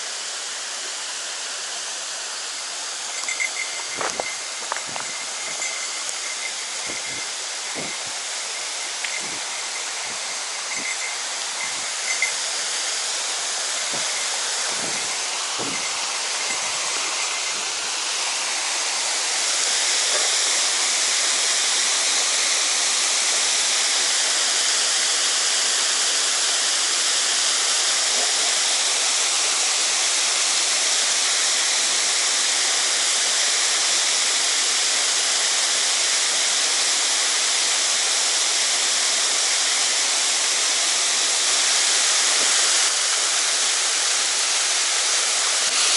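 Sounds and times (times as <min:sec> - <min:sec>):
water rushing over a dam: 0:00.0 - 0:45.9.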